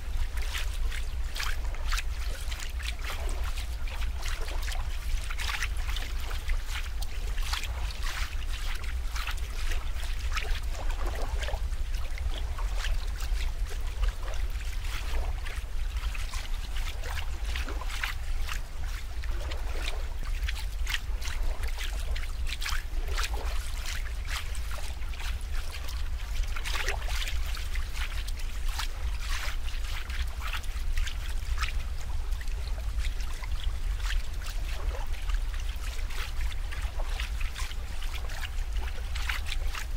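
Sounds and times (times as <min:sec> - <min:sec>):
small sharp drips: 0:00.0 - 0:39.9
steady low rumble: 0:00.0 - 0:39.9
water trickling and splashing: 0:00.0 - 0:39.9.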